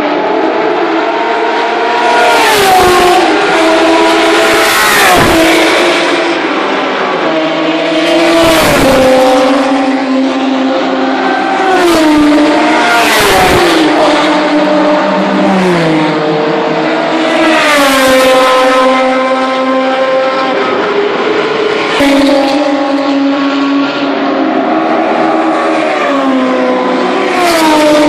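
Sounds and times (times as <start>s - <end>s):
race cars passing at full speed: 0.0s - 28.0s.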